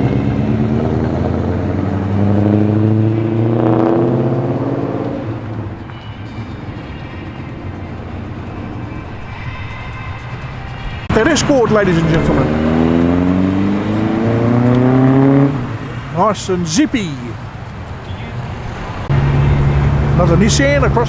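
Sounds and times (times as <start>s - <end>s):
car engine driving off: 0.0s - 21.0s.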